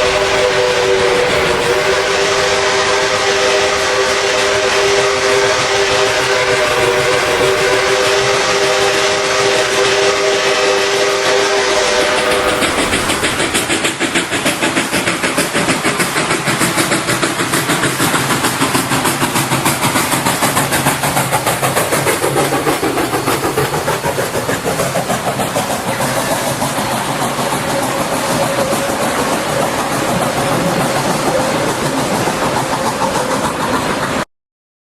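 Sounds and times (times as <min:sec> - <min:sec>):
steam locomotive chuffing: 0:00.0 - 0:34.3.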